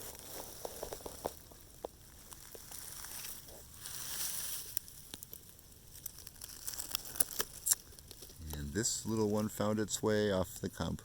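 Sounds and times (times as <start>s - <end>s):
faint rustling: 0.0s - 9.7s
soft hiss: 0.0s - 11.0s
light clicks and crackles: 0.1s - 9.5s.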